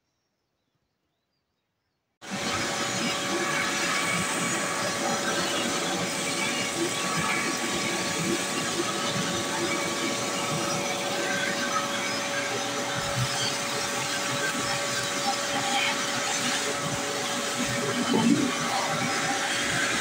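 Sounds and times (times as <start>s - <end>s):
vacuum cleaner running: 2.2s - 20.0s.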